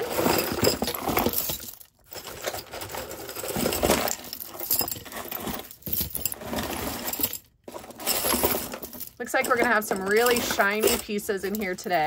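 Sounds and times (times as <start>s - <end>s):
jewelry jangling and clinking: 0.0s - 12.0s.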